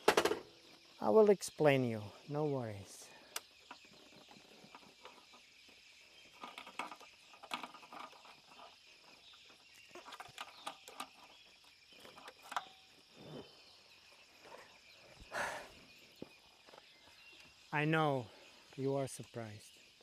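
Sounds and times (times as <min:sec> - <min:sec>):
high insect chorus: 0:00.0 - 0:20.0.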